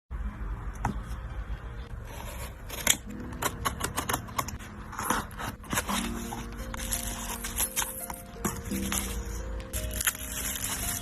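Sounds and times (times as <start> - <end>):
soft background music: 1.4 - 11.0
packaging crinkling and scraping: 2.1 - 11.0.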